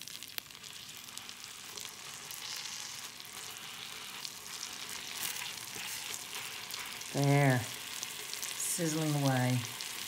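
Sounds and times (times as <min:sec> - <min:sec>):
steak sizzling in butter: 0:00.0 - 0:10.0.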